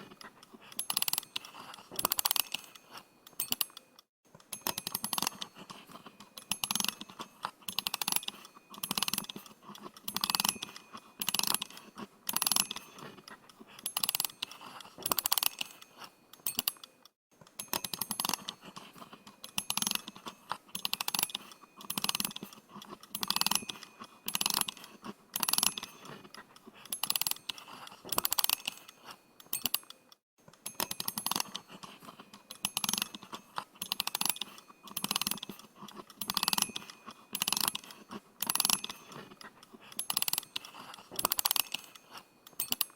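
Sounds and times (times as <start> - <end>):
watch winding ratchet clicks: 0.0 - 42.9.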